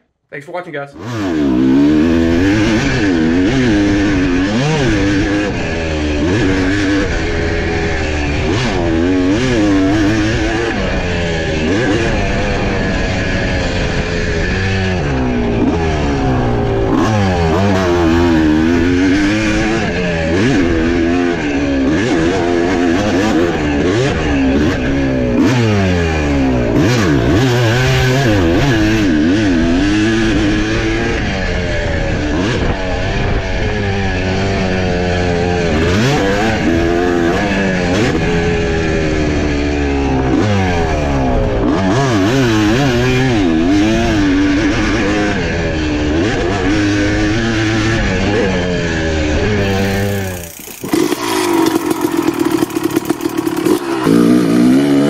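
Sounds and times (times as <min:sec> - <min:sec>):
dirt bike engine revving: 0:00.4 - 0:55.0.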